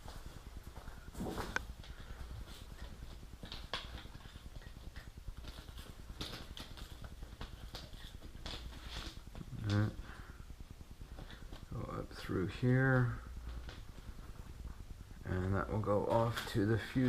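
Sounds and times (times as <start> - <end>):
wires clicking and rustling: 0.2 - 10.1, 10.8 - 17.0.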